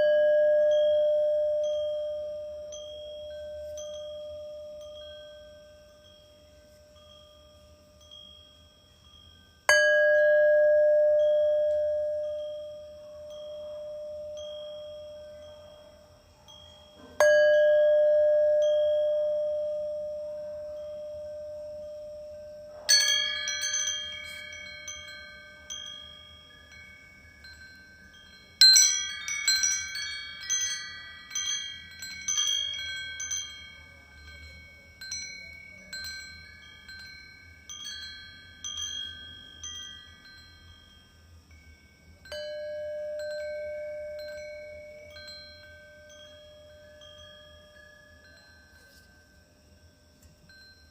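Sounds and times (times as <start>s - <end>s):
singing bowl ringing: 0.0s - 50.9s
wind chimes tinkling: 0.0s - 50.9s.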